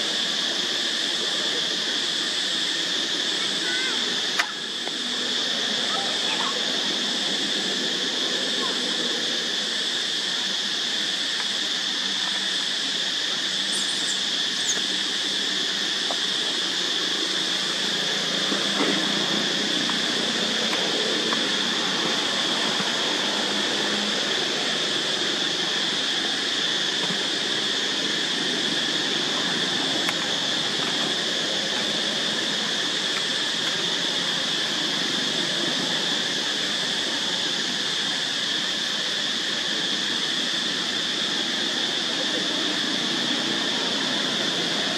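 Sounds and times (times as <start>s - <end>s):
insects droning: 0.0s - 44.9s
steady hiss: 0.0s - 44.9s.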